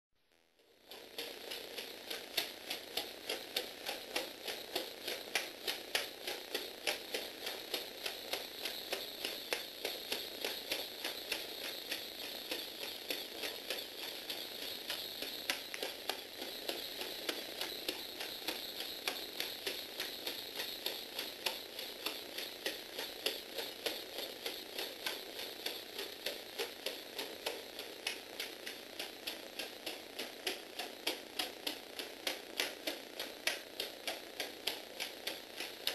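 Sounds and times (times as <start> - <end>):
motor and gears whirring: 0.9 - 35.9
plastic feet clicking on wood: 0.9 - 35.9.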